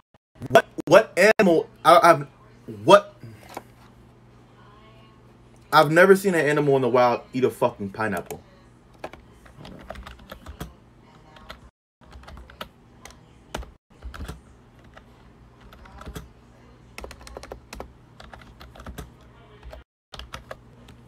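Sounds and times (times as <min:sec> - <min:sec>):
faint low hum: 0:01.6 - 0:21.0.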